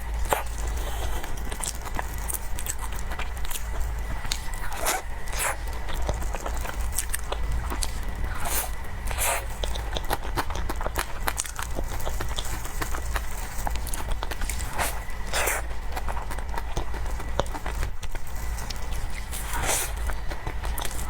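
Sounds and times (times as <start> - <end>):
chewing soft cake: 0.0 - 21.0
steady low hum: 0.0 - 21.0.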